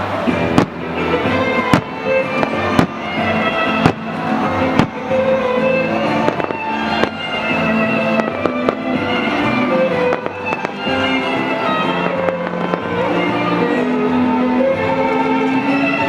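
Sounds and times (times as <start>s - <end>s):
fireworks cracking and banging: 0.0s - 16.0s
music playing: 0.0s - 16.0s.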